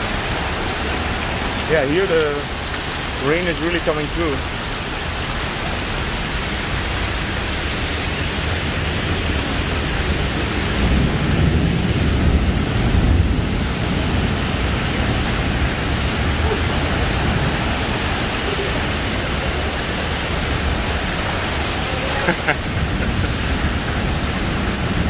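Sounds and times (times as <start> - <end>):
heavy rain pouring on street: 0.0 - 25.0.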